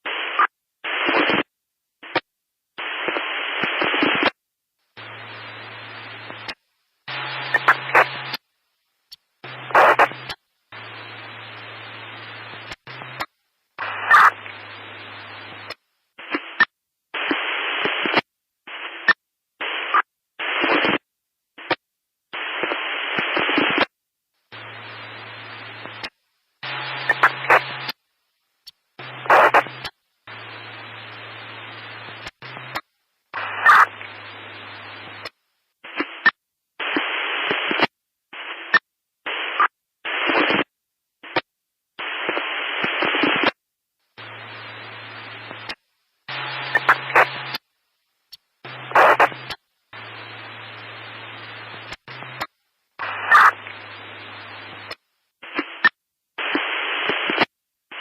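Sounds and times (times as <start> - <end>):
static hiss bursts: 0.0 - 58.0.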